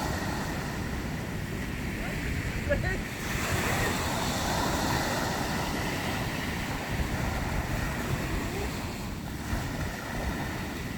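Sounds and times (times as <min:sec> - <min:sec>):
ocean waves washing in: 0:00.0 - 0:10.9
wind on microphone: 0:00.0 - 0:10.9.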